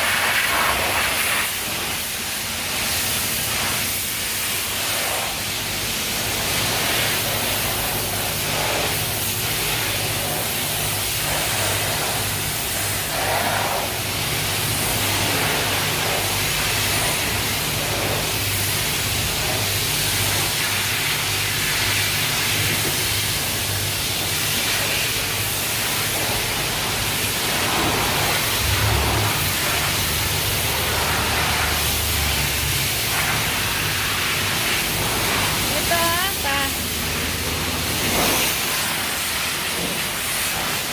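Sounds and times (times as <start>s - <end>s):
high-pressure water spraying: 0.0s - 40.9s.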